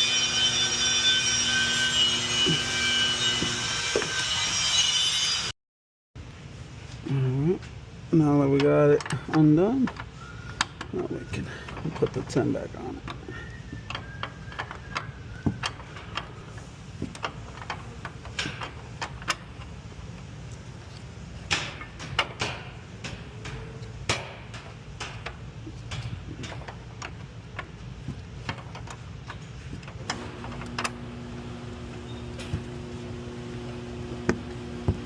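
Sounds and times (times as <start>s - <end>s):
steady two-tone hum: 6.2s - 35.0s.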